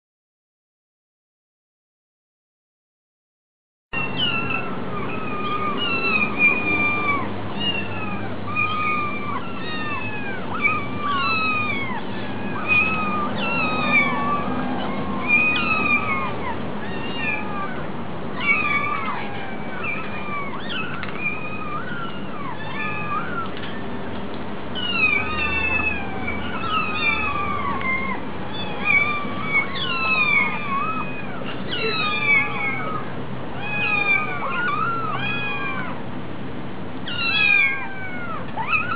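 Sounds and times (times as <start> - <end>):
kittens mewing: 4.0 - 36.2, 37.0 - 38.9.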